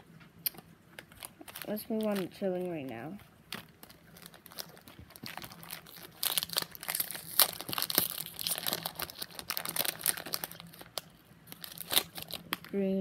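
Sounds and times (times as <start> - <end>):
foil wrapper crinkling: 0.5 - 13.0.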